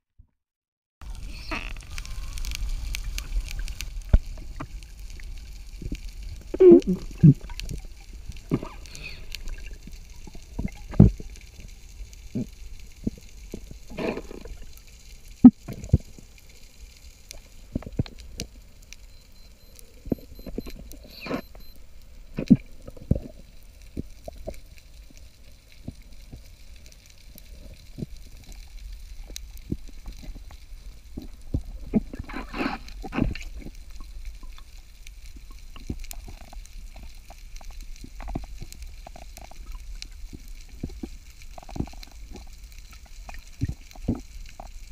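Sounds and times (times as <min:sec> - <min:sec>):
underwater rumble: 0:01.0 - 0:44.9.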